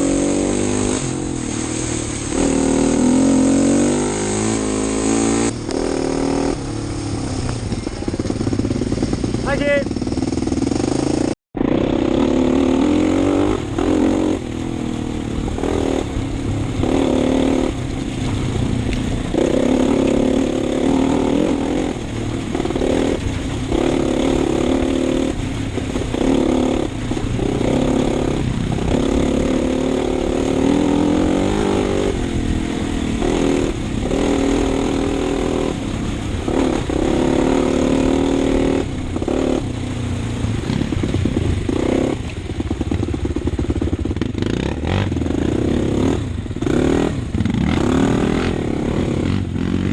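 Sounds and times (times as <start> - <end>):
dirt bike engine revving: 0.0 - 39.7, 40.6 - 49.9.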